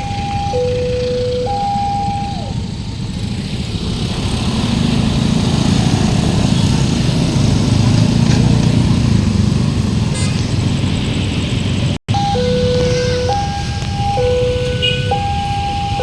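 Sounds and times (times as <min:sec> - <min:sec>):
passing vehicles engine rumble: 0:00.0 - 0:16.0.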